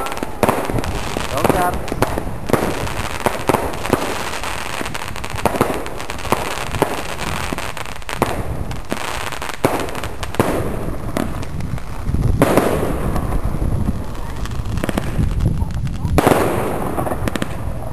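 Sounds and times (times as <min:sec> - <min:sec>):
firecracker bangs and crackles: 0:00.0 - 0:17.9.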